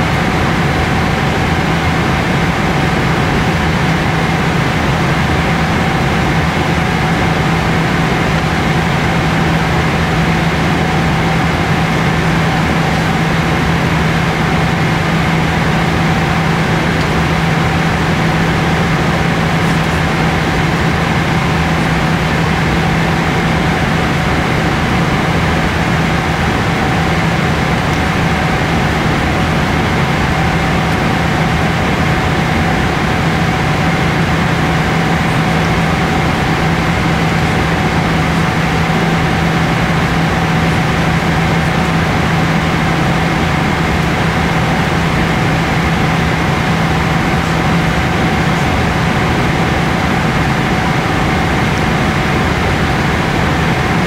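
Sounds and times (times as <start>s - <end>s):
airplane cabin airflow and engine drone: 0.0s - 54.0s
steady low hum: 0.0s - 54.0s.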